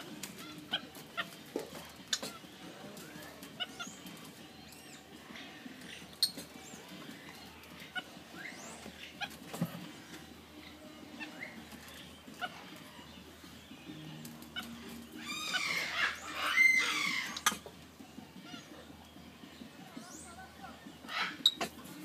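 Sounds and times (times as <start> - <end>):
monkeys chirping and squealing: 0.2 - 22.0.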